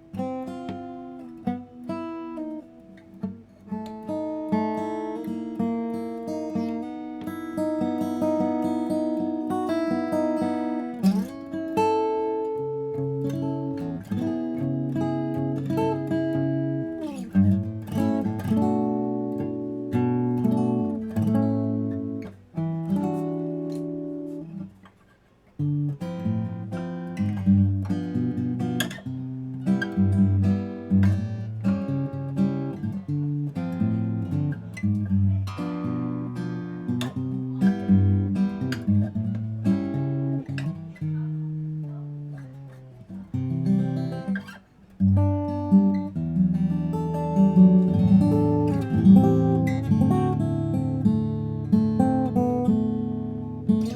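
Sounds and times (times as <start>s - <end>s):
acoustic guitar playing: 0.0s - 53.9s.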